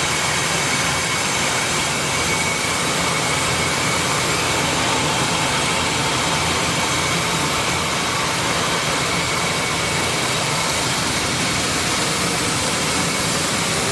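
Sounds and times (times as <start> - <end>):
milling machine humming: 0.0 - 13.9.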